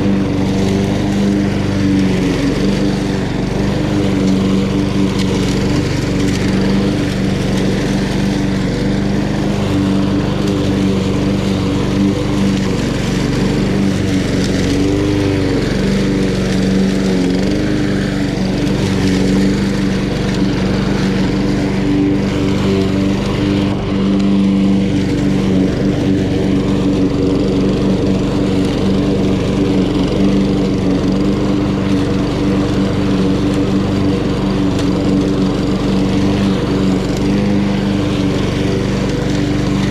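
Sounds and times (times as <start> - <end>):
lawn mower engine cutting grass: 0.0 - 39.9.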